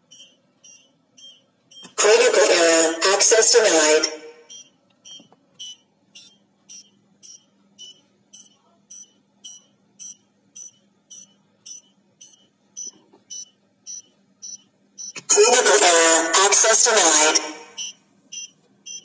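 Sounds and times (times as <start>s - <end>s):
high buzzer beeps: 0.0s - 19.0s.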